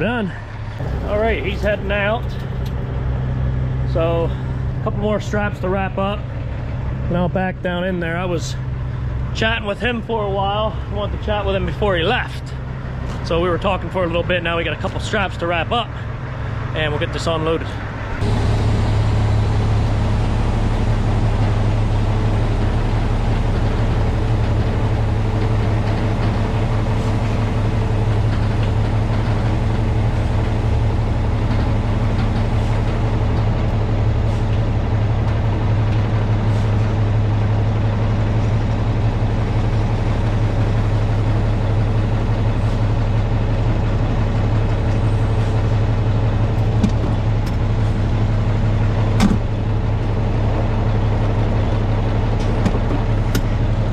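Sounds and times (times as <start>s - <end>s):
diesel truck engine running: 0.0s - 53.9s.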